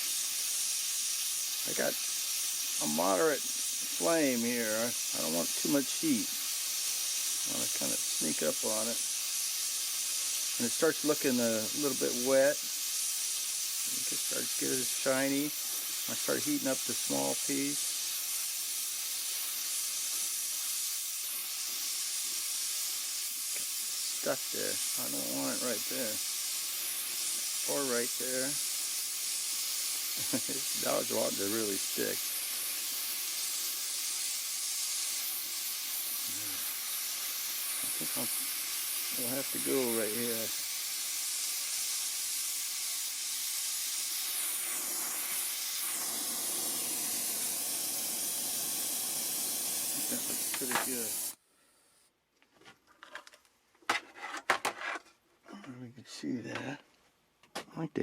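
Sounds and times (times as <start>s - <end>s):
gas torch hissing: 0.0s - 52.1s.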